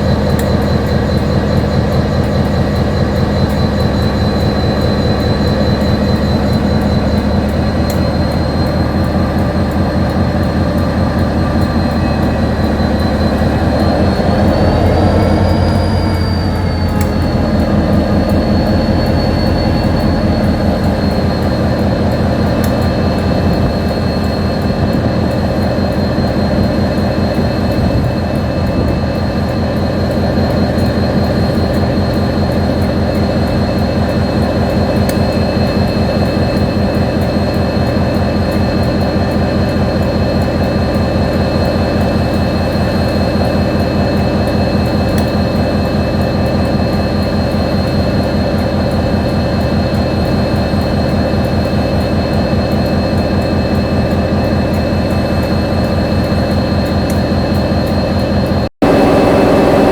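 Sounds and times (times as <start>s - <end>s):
diesel locomotive engine rumble: 0.0s - 59.9s
high steady whine: 0.0s - 59.9s.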